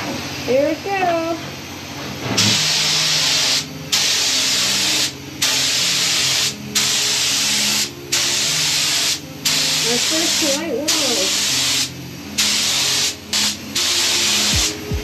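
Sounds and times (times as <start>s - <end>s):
paint spray gun hissing: 2.4s - 15.0s.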